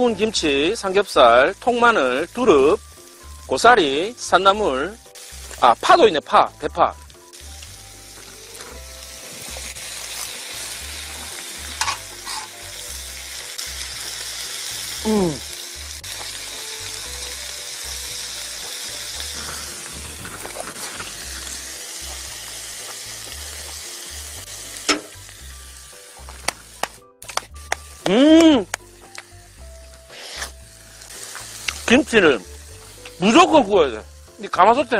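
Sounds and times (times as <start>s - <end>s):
food sizzling on hot metal: 0.0s - 34.9s.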